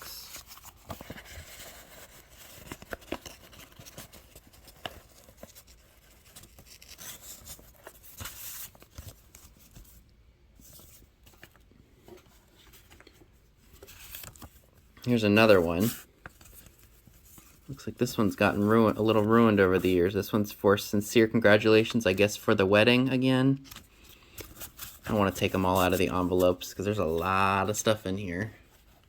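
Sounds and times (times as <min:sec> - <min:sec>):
paper rustling and sliding: 0:00.0 - 0:20.1, 0:23.6 - 0:29.0.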